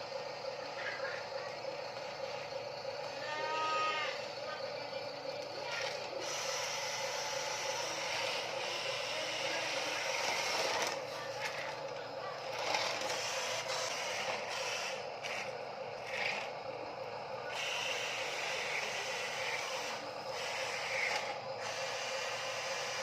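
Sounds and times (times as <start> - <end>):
toy truck electric motor whine: 0.0 - 23.0.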